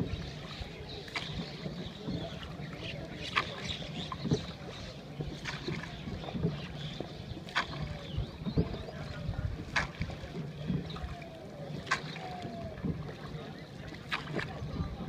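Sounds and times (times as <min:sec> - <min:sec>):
boat engine low hum: 0:00.0 - 0:15.0.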